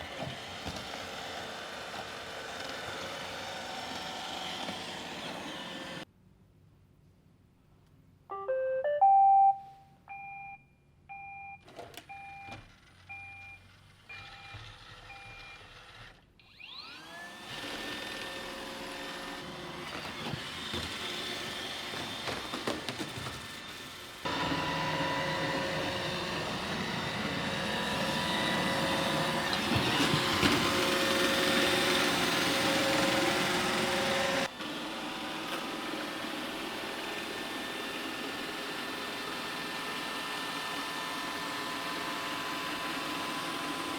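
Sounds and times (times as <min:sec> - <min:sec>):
robot vacuum motor whine: 0:00.0 - 0:06.0, 0:12.6 - 0:43.9.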